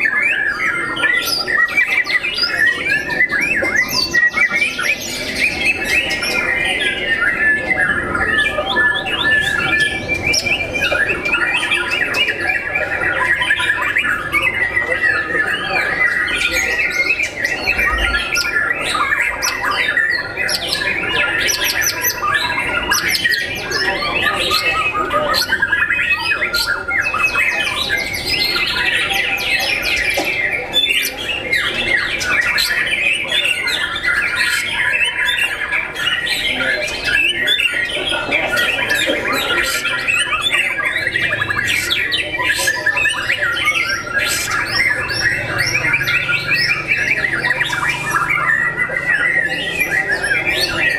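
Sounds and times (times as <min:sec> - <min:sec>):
songbirds singing varied whistles: 0:00.0 - 0:50.9.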